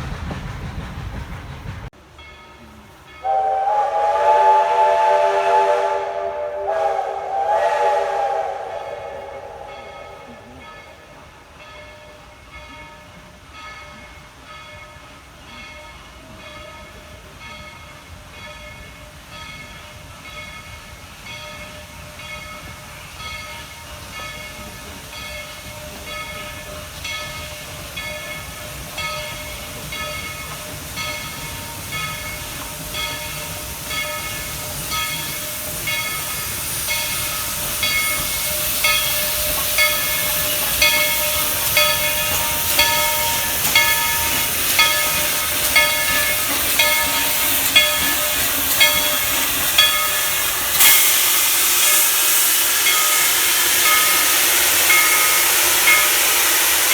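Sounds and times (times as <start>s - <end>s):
steam train approaching: 0.0s - 56.9s.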